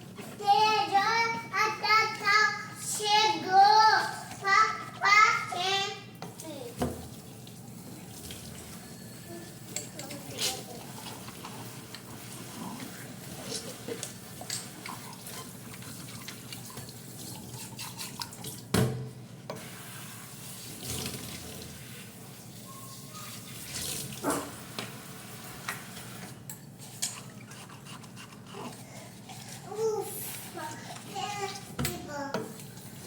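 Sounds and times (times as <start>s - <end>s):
water running: 0.0s - 33.0s.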